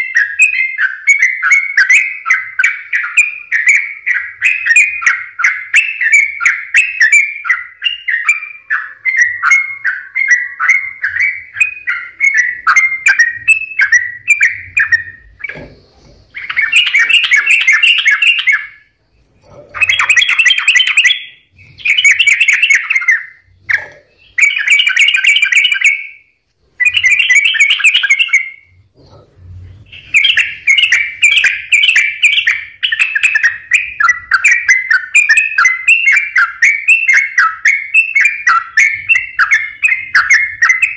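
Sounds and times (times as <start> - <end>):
bulbul rapid chattering song: 0.0 - 26.2, 26.8 - 29.2, 29.8 - 40.9.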